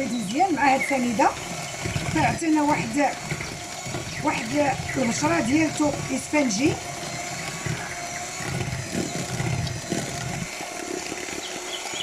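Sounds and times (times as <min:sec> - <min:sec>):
electric hand mixer humming: 0:00.0 - 0:12.0.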